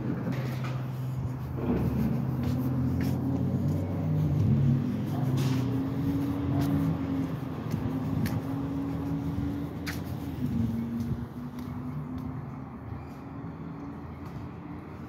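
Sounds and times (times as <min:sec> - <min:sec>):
truck engine running: 0:00.0 - 0:12.6.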